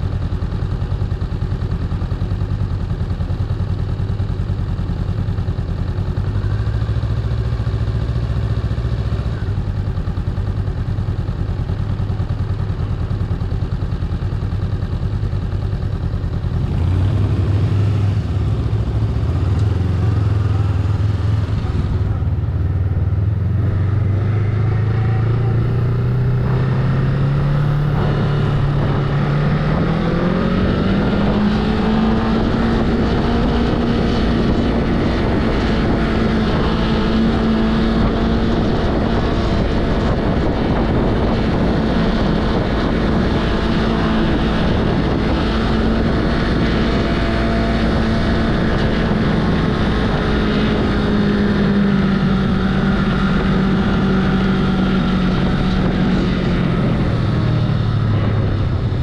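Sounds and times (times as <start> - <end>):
motorcycle engine under power: 0.0 - 59.0.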